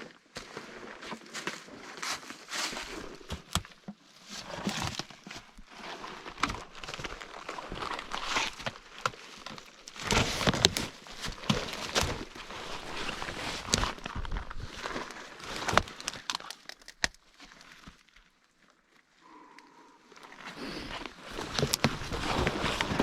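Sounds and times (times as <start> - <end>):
footsteps on rough woodland ground: 0.0 - 23.0.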